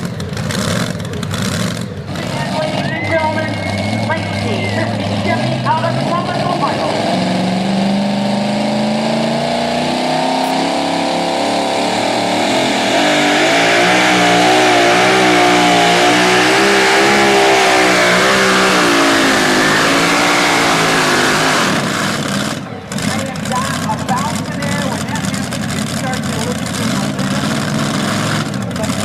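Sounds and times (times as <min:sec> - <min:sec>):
truck engine revving hard: 0:00.0 - 0:29.0.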